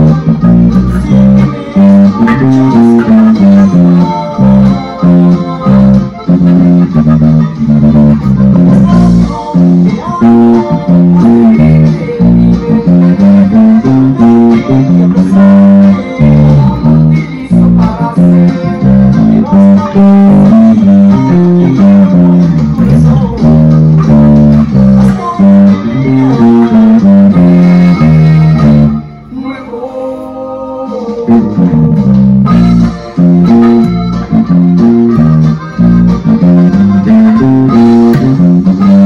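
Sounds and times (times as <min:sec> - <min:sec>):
electric bass guitar plucked: 0:00.0 - 0:29.7, 0:30.4 - 0:39.0.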